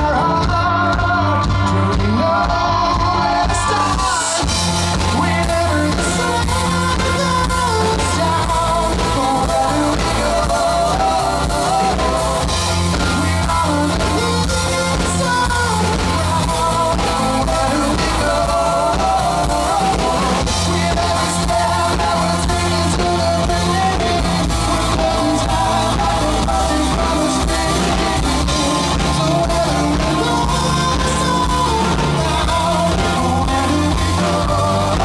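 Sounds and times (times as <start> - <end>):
bass guitar: 0.0 - 35.0
keyboard: 0.0 - 35.0
live rock band playing: 0.0 - 35.0
man singing into a microphone: 0.0 - 35.0.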